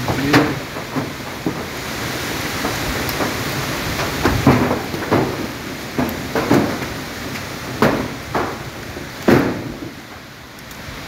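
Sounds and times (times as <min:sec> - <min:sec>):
short knocks and rattles: 0:00.0 - 0:10.3
wind blowing through trees: 0:00.0 - 0:11.0.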